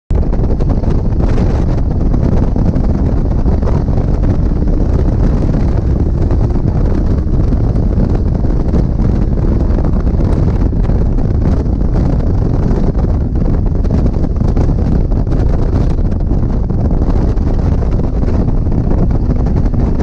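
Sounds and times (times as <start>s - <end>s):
wind buffeting microphone: 0.1s - 20.0s.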